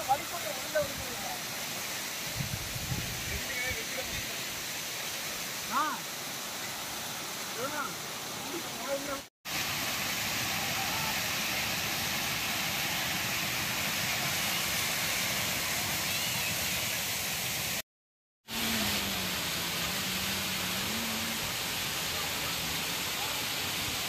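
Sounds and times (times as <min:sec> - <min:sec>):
water rushing over cascade: 0:00.0 - 0:17.8, 0:18.4 - 0:24.0.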